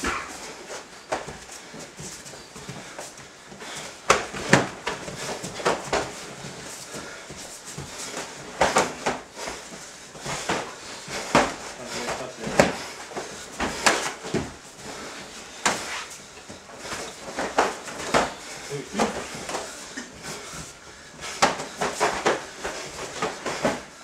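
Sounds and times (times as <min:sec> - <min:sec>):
footsteps on a mat: 0:00.0 - 0:24.0.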